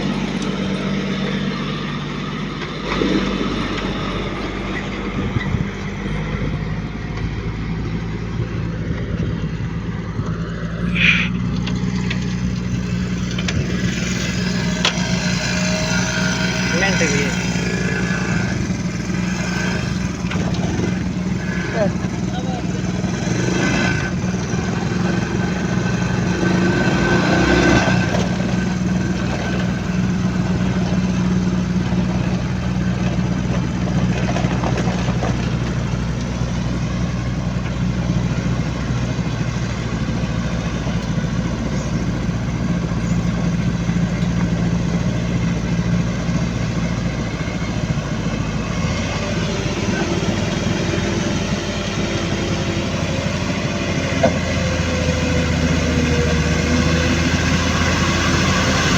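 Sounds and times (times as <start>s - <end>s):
construction machine engine idling: 0.0s - 58.9s.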